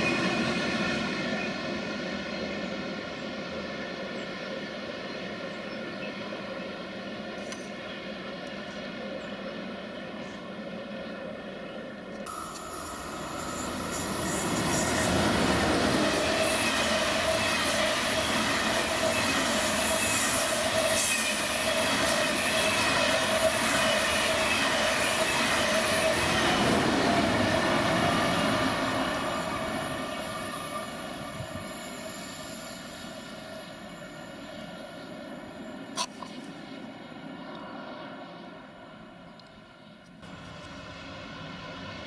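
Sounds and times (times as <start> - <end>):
train wheels rolling on rails: 0.0 - 35.9
train whine: 0.0 - 42.0.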